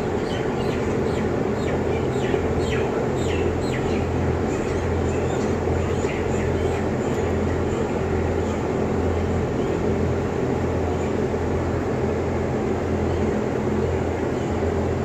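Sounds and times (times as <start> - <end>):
low electrical hum: 0.0 - 15.0
ventilation fans droning: 0.0 - 15.0.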